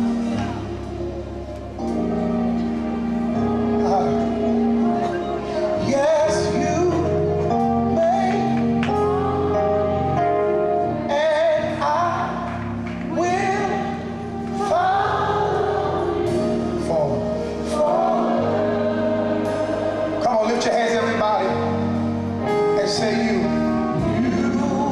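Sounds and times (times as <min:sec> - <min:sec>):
choir singing gospel: 0:00.0 - 0:24.9
organ chords: 0:00.0 - 0:24.9.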